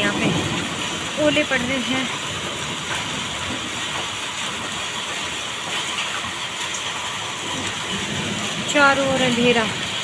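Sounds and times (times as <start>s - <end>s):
hail falling heavily: 0.0s - 10.0s.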